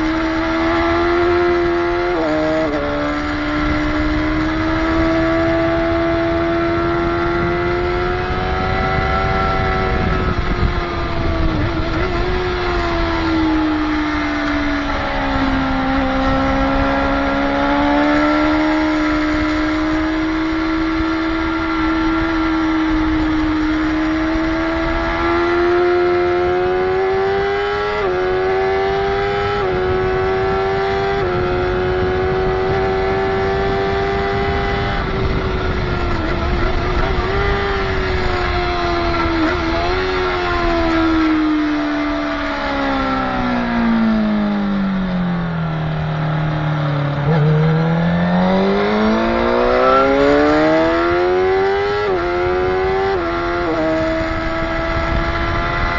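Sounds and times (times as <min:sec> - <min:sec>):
motorcycle engine at speed: 0:00.0 - 0:55.9.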